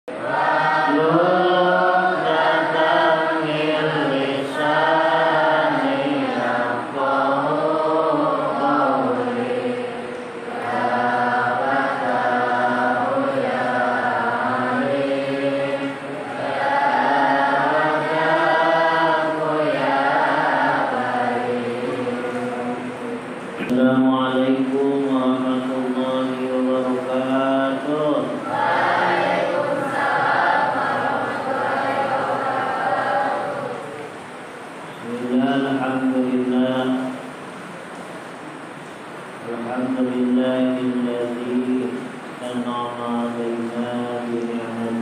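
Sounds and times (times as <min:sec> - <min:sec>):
man chanting into microphone: 0:00.6 - 0:10.0, 0:10.6 - 0:30.0, 0:35.0 - 0:37.3, 0:39.4 - 0:45.0.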